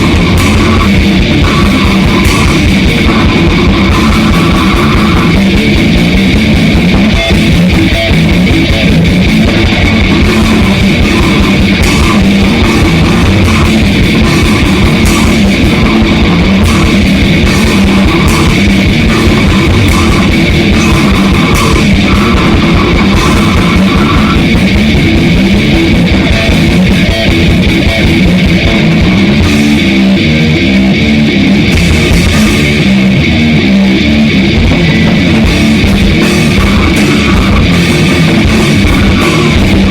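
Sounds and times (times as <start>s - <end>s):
distorted electric guitar: 0.0s - 39.9s
rapid drum kit hits: 0.0s - 39.9s.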